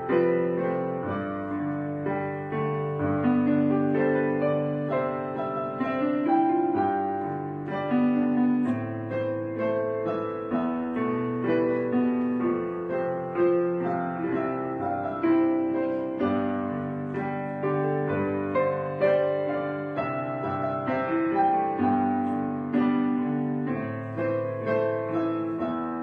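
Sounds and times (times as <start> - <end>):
slow piano chords: 0.0 - 26.0.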